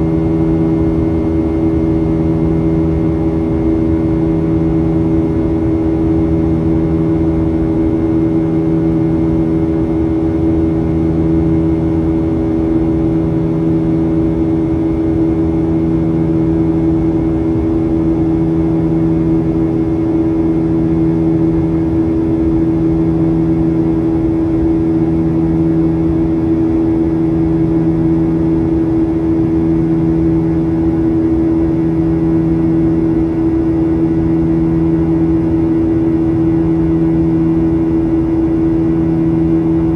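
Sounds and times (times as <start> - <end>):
airplane cabin engine drone: 0.0 - 39.9
low hum tones: 0.0 - 39.9.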